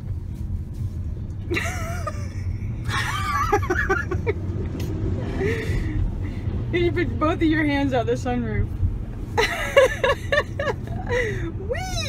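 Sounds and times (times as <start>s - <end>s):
road rumble inside car: 0.0s - 12.0s.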